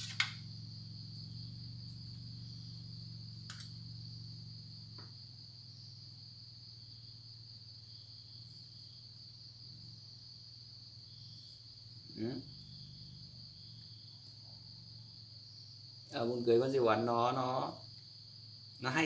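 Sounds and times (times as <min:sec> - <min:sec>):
low steady hum: 0:00.0 - 0:16.1
cricket trill: 0:00.0 - 0:19.0.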